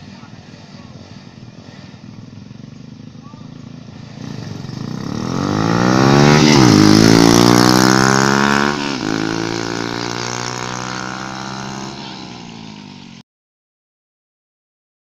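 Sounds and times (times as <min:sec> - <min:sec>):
motorcycles racing past: 0:00.0 - 0:13.2.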